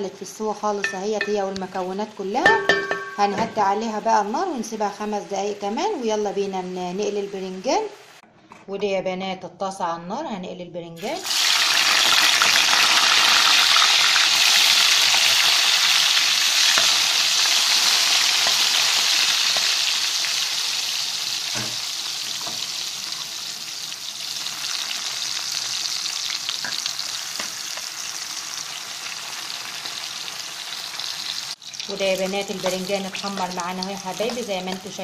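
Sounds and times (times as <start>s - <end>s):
vegetables sizzling in hot oil: 0.0s - 8.2s, 11.0s - 35.0s.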